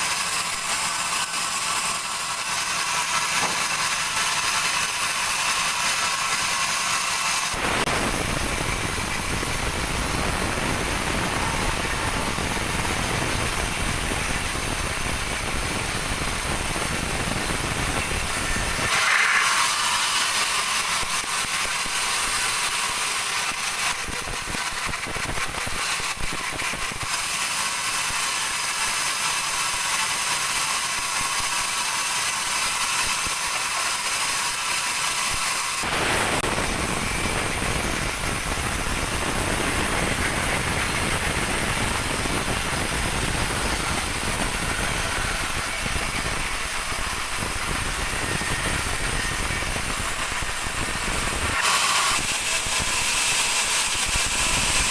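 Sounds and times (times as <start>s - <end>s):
band saw cutting wood: 0.0s - 54.9s.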